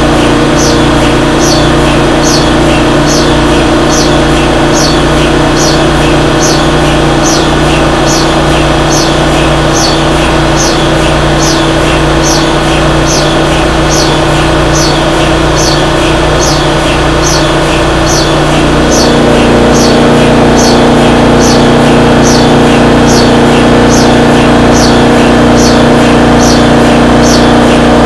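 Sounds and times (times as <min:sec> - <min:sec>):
electric motor hum: 0:00.0 - 0:28.0.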